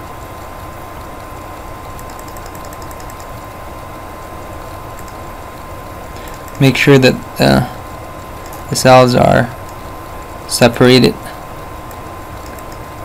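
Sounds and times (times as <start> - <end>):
faint high whine: 0.0 - 13.0
low rumble and hiss: 0.0 - 13.0.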